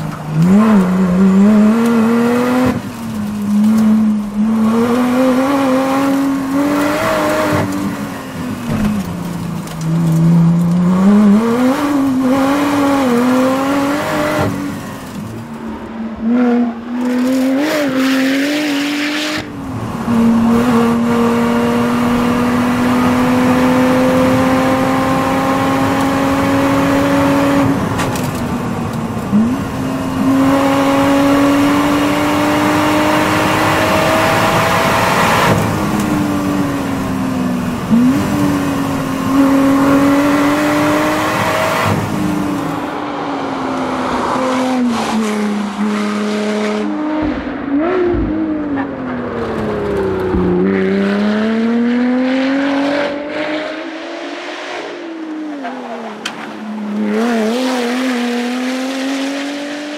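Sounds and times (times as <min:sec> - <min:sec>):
racing car engine revving: 0:00.0 - 0:15.2, 0:16.2 - 0:59.9.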